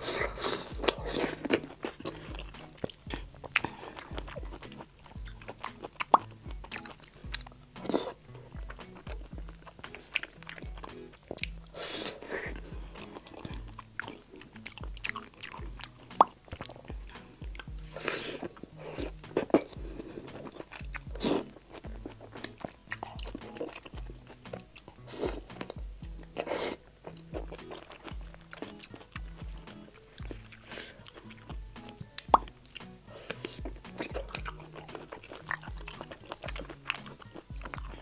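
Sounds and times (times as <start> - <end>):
background music with steady beat: 0.0 - 38.0
person chewing food: 0.0 - 38.0.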